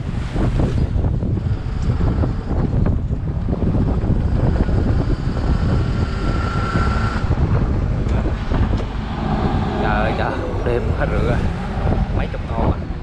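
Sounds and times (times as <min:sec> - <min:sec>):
boat engine running: 0:00.0 - 0:13.0
wind on microphone: 0:00.0 - 0:13.0.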